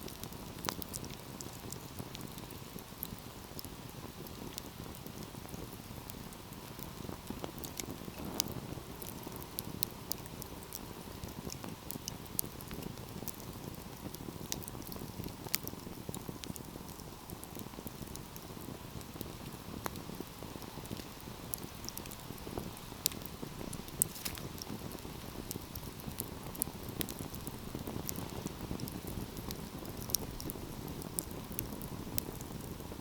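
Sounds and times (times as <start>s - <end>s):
fire pops: 0.0s - 33.0s
wood fire crackling: 0.0s - 33.0s.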